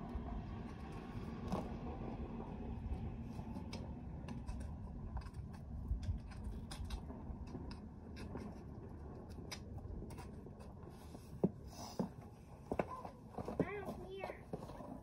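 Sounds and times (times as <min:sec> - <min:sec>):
hoof pick scraping and clicking: 0:00.1 - 0:15.0.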